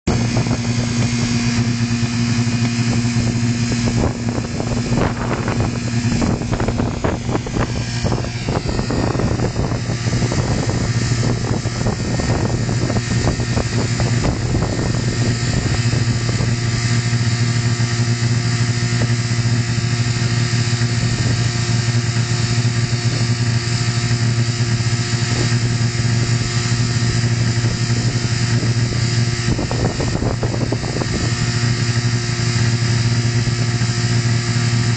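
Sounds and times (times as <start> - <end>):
car engine running flat out: 0.0 - 34.9
engine clattering: 0.0 - 34.9.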